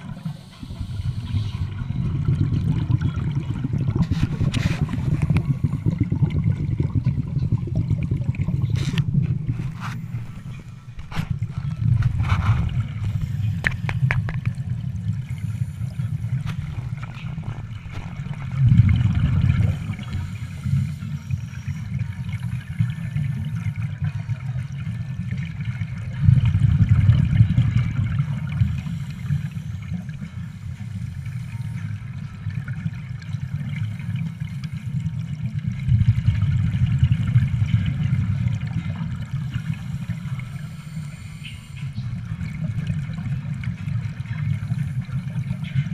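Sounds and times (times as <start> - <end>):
underwater regulator bubbles: 0.0 - 45.9.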